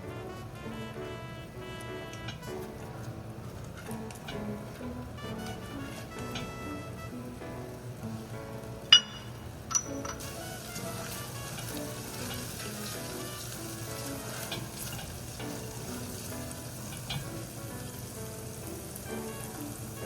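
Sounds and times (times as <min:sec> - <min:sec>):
soft background music: 0:00.0 - 0:20.0
food sizzling in a pan: 0:02.1 - 0:20.0.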